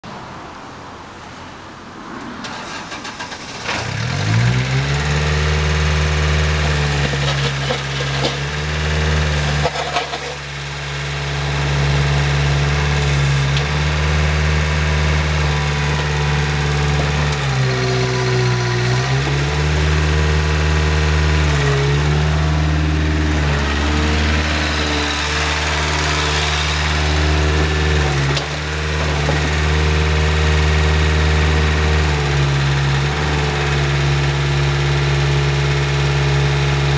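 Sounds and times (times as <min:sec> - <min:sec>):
diesel excavator engine running: 0:02.4 - 0:36.9.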